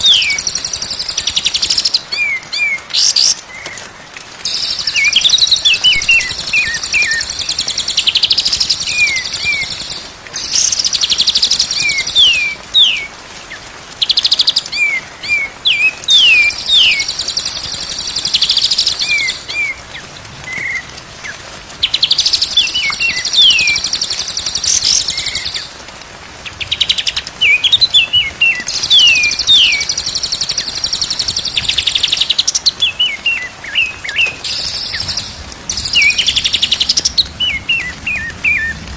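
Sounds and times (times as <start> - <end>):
songbird singing trills and chirps: 0.0 - 3.8, 4.4 - 25.8, 26.5 - 38.9.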